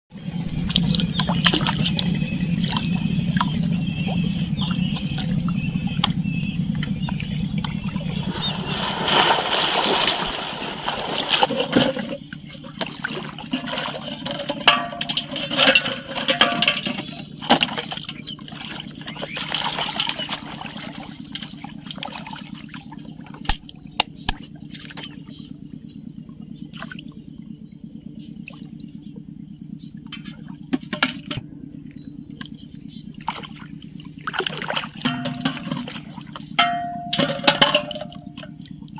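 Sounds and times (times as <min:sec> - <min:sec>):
steady low hum: 0:00.1 - 0:38.9
water trickling and sloshing: 0:00.2 - 0:38.9.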